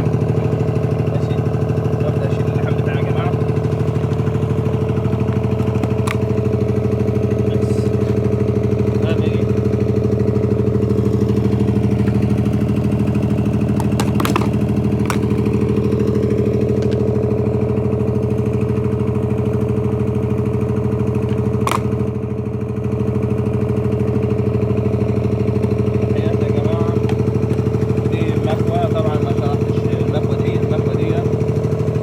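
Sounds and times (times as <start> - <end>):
motor humming steadily: 0.0 - 32.0.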